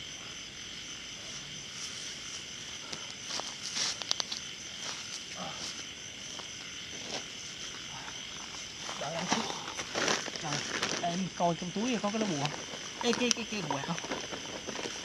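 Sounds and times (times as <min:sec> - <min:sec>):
insects and frogs trilling: 0:00.0 - 0:15.0.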